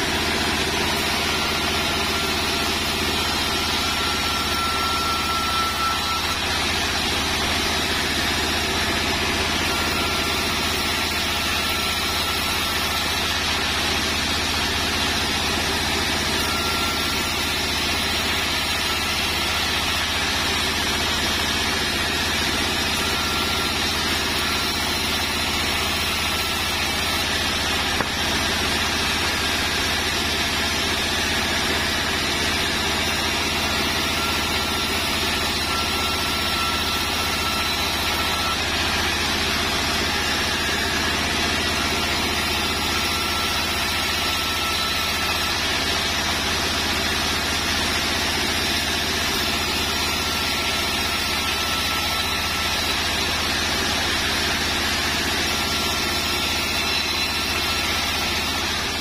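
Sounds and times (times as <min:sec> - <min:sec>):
band sawmill cutting wood: 0:00.0 - 0:59.0.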